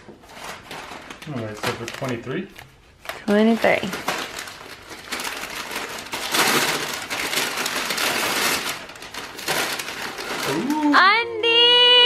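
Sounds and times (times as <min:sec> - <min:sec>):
gift wrapping crinkling and tearing: 0:00.2 - 0:11.0.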